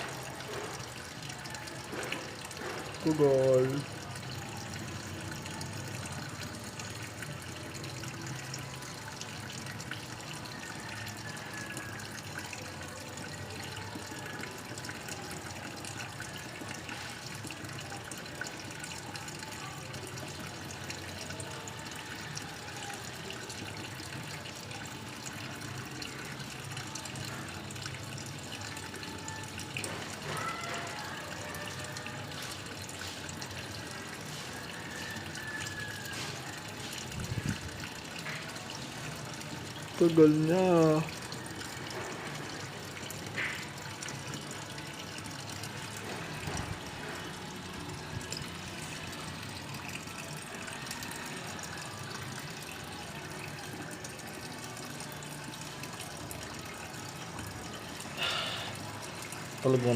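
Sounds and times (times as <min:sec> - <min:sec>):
water filling washing machine: 0:00.0 - 0:59.9.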